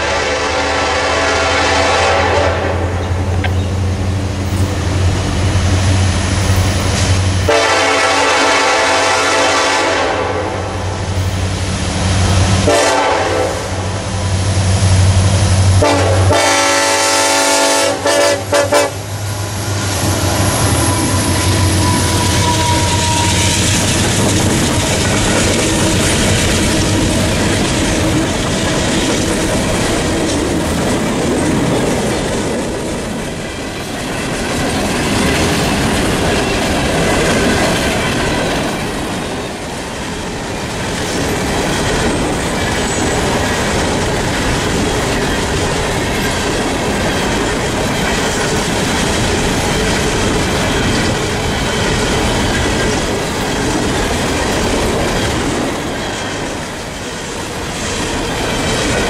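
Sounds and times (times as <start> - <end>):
freight train wheels clattering: 1.6 - 10.0, 10.6 - 59.0.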